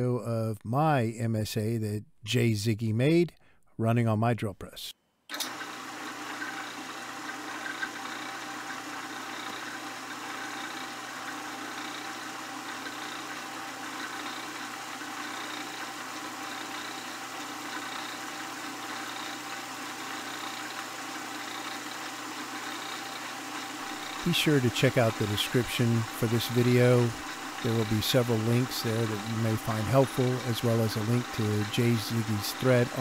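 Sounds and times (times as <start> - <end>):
belts and pulleys whirring: 5.3 - 33.0
drill press motor hum: 5.3 - 33.0.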